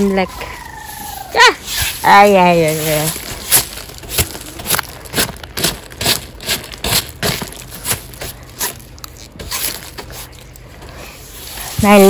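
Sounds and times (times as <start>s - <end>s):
brush sweeping dry leaves: 0.0s - 12.0s.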